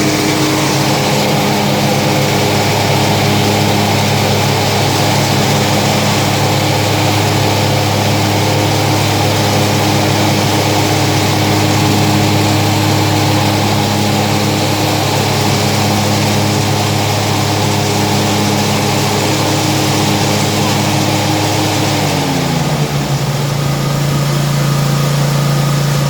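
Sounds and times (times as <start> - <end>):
lawn mower running: 0.0 - 26.0
mower rattling: 0.0 - 26.0.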